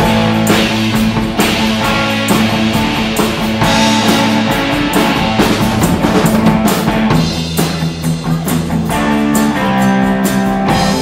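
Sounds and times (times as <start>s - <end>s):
drum kit beat: 0.0s - 11.0s
held guitar chords: 0.0s - 11.0s.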